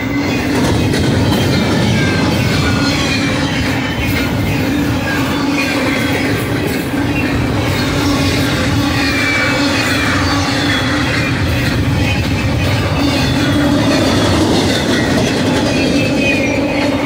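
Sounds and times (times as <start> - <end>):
train wheels rumbling on rails: 0.0 - 17.0
wheel squeals: 0.0 - 17.0.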